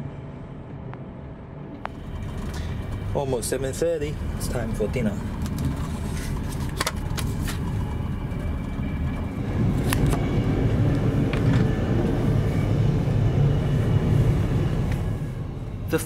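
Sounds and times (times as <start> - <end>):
train carriage rumbling on rails: 1.9 - 16.0.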